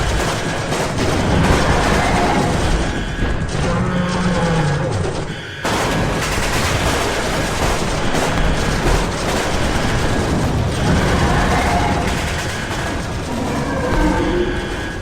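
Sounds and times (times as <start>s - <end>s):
explosions: 0.0s - 15.0s
rapid gunfire: 0.0s - 15.0s.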